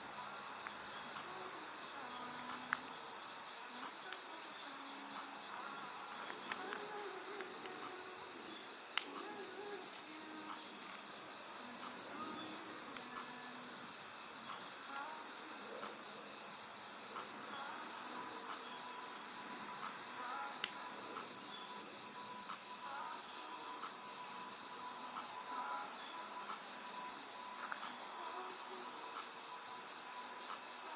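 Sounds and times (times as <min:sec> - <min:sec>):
crickets and insects chorus: 0:00.0 - 0:30.9.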